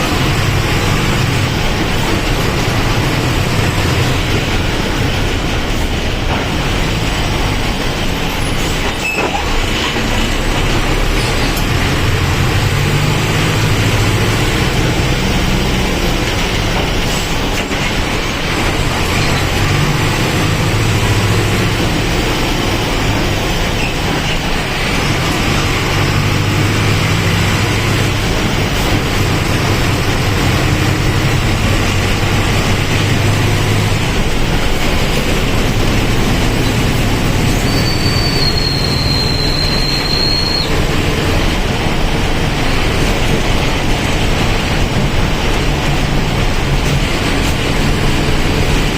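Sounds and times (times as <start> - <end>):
bus diesel engine drone: 0.0 - 48.9
road and rattle noise: 0.0 - 48.9.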